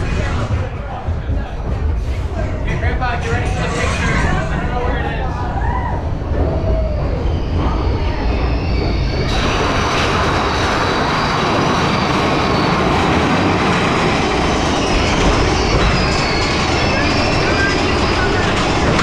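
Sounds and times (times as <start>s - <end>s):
roller coaster rattling on track: 0.0s - 19.0s
wheels squealing: 2.6s - 19.0s.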